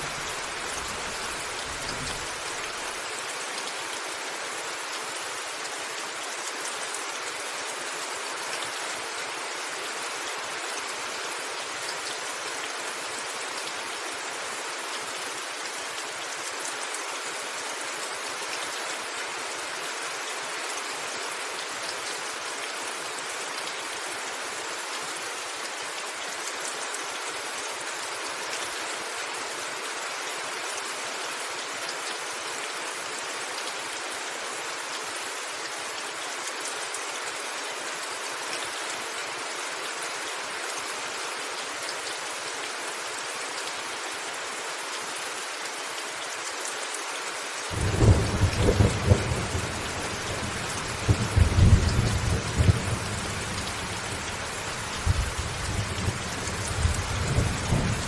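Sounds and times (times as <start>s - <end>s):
rain falling on a roof: 0.0s - 58.0s.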